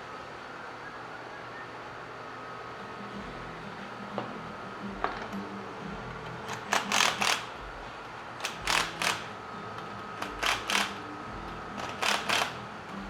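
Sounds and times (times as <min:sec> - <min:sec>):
faint shop hum: 0:00.0 - 0:13.0.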